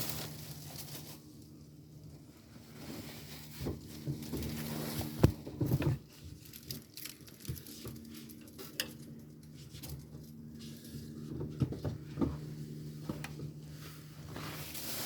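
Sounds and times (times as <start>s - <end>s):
rustling and handling noise: 0.0s - 15.0s
steady low hum: 0.0s - 15.0s.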